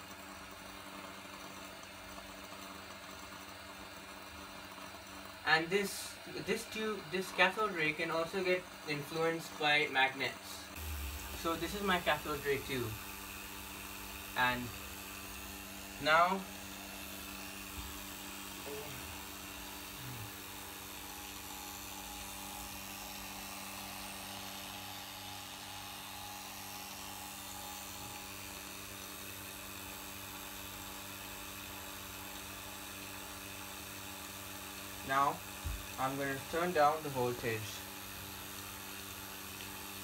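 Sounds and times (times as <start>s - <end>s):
vacuum pump humming: 0.0s - 40.0s.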